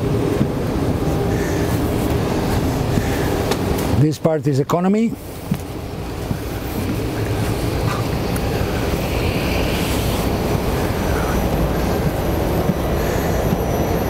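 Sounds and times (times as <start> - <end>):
cabin ventilation air rushing: 0.0 - 14.0.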